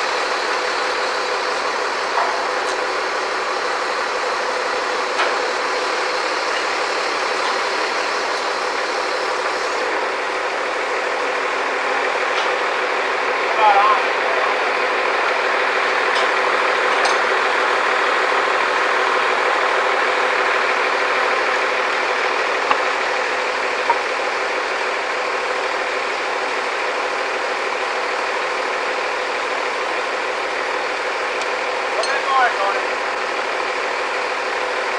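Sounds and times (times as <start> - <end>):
heavy machinery engine running: 0.0 - 34.9.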